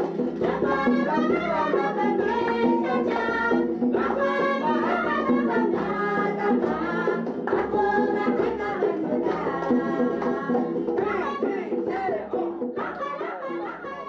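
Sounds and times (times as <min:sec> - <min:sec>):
instrumental accompaniment: 0:00.0 - 0:13.3
women singing together: 0:00.0 - 0:14.0.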